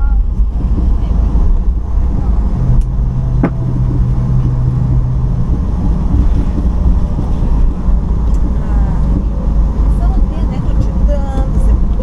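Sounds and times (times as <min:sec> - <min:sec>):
low humming tone: 0:00.0 - 0:12.0
moving vehicle rumble: 0:00.0 - 0:12.0.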